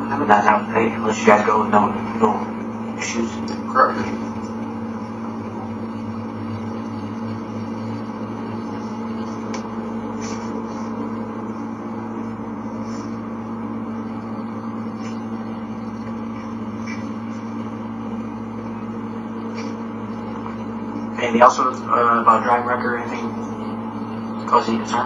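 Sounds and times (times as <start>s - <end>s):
electrical hum: 0.0s - 25.0s
room noise: 0.0s - 25.0s.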